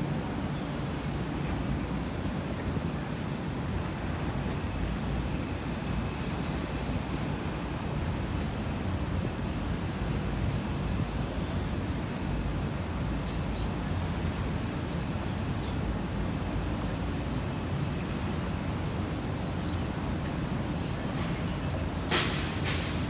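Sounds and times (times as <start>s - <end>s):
ferry engines rumbling: 0.0s - 23.0s
rumble of water: 0.0s - 23.0s.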